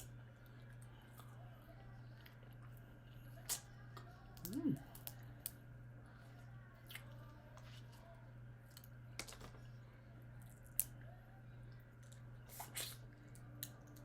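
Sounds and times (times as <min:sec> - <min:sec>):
low steady hum: 0:00.0 - 0:14.0
soft chewing: 0:00.0 - 0:14.0.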